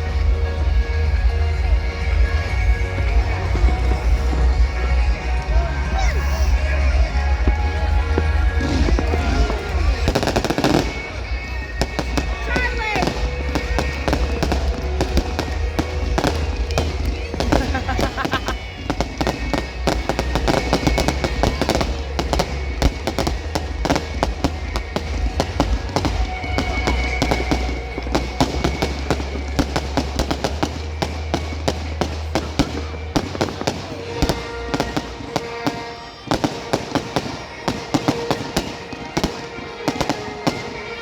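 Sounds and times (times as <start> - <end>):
music with bass line: 0.0 - 35.2
fireworks crackling bangs: 0.0 - 41.0.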